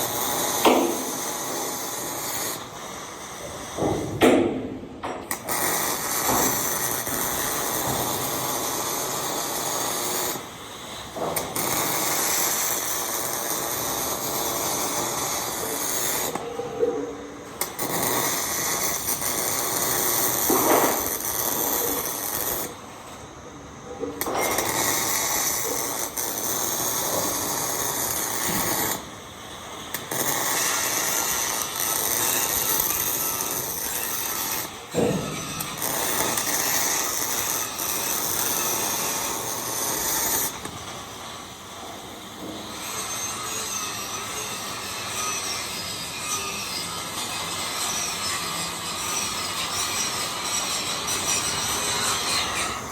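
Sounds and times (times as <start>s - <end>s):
welding arc crackling and hissing: 0.0s - 52.9s.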